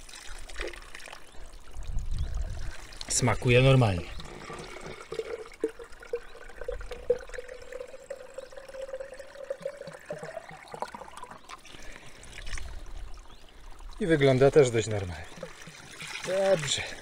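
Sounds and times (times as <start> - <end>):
water pouring and trickling: 0.0 - 17.0.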